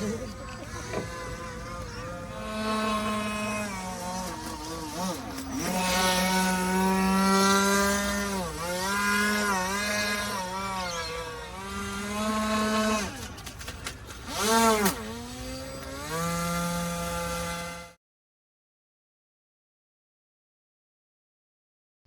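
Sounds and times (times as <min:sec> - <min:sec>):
model boat motor buzzing: 0:00.0 - 0:18.0.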